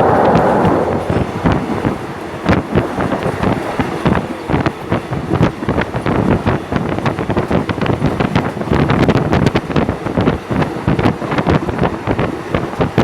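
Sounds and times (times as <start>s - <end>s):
train running at speed: 0.0s - 13.0s
wind buffeting microphone: 0.0s - 13.0s.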